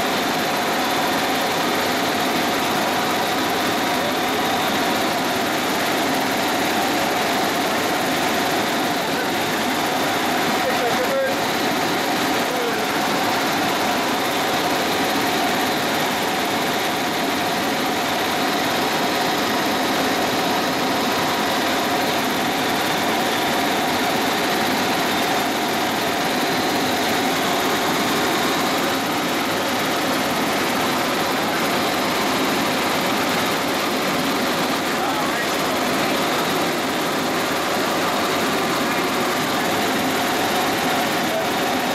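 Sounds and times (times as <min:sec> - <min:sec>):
helicopter engine and rotor noise: 0:00.0 - 0:41.9.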